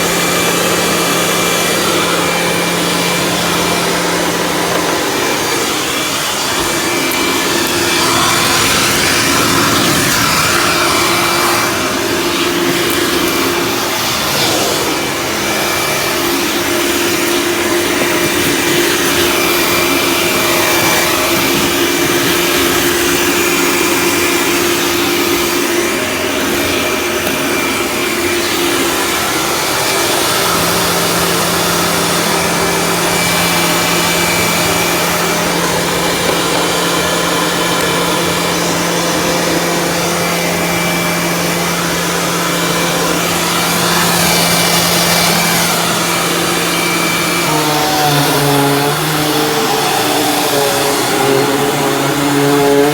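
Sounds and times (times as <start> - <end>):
vacuum cleaner running over carpet: 0.0 - 52.9.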